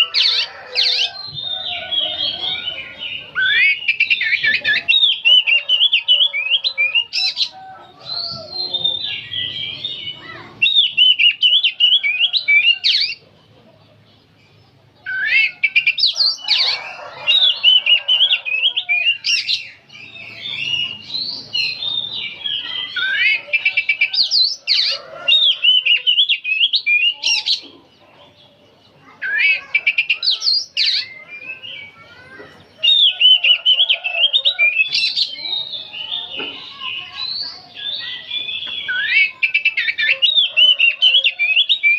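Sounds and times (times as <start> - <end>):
bird singing whistles and chatter: 0.0 - 13.2, 15.0 - 27.7, 29.1 - 41.9.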